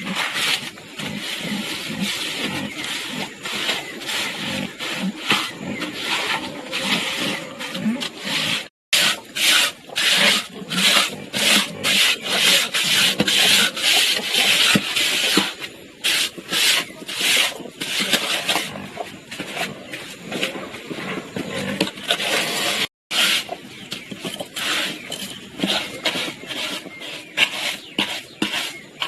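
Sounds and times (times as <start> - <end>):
abrasive rubbing on wood: 0.0 - 29.0.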